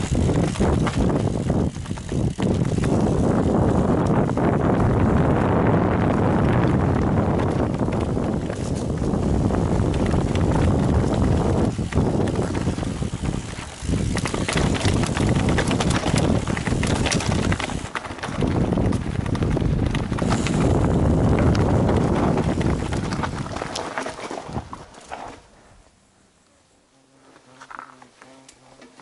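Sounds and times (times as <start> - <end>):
wind buffeting microphone: 0.0 - 24.9
bike clicks and rattles: 0.0 - 25.4.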